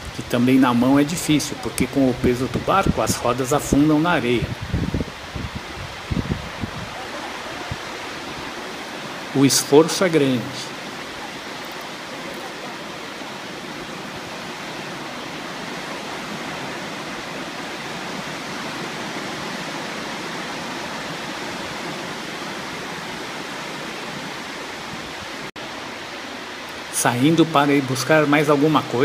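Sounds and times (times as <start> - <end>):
surf breaking on beach: 0.0 - 25.5.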